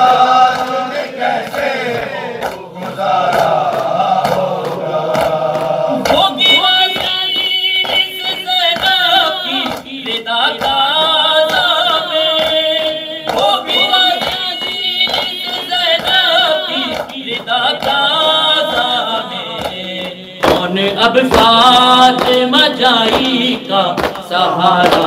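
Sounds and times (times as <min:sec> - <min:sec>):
man singing a lament: 0:00.0 - 0:25.0
rhythmic chest-beating: 0:00.0 - 0:25.0.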